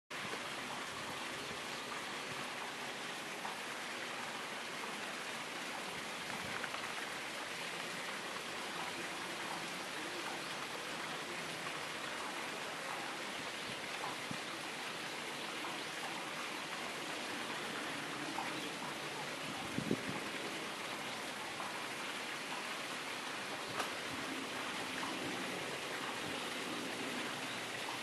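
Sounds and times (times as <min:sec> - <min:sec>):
outdoor background hiss: 0:00.1 - 0:28.0.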